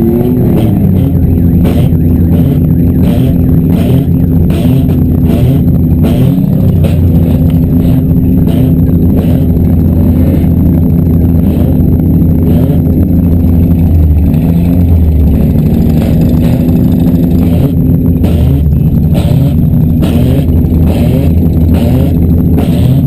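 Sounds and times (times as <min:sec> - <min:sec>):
car engines running loudly: 0:00.0 - 0:23.0.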